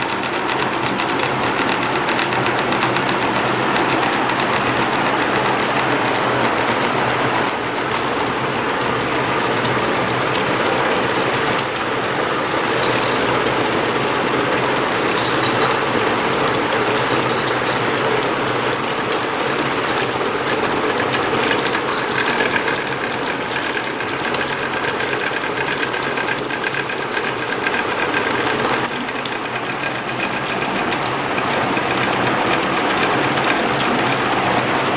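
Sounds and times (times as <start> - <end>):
fast fine ticking: 0.0 - 34.9
stepper motors buzzing: 0.0 - 34.9.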